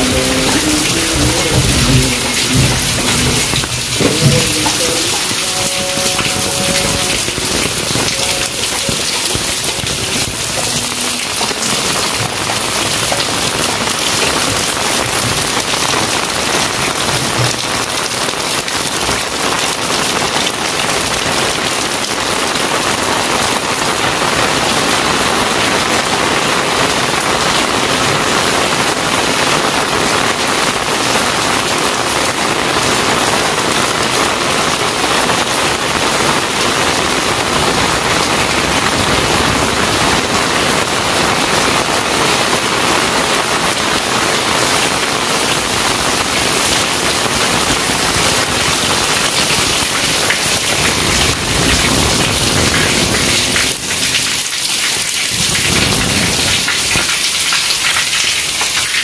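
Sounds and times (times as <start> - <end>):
heavy rain pattering on pavement: 0.0 - 59.0.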